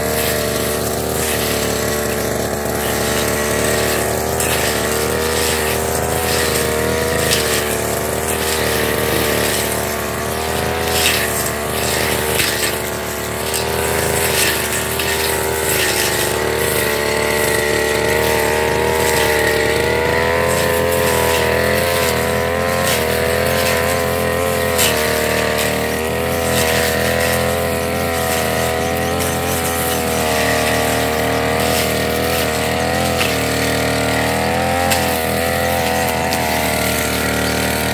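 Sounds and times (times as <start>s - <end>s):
blade rasping through grass: 0.0s - 37.9s
brush cutter engine running: 0.0s - 37.9s.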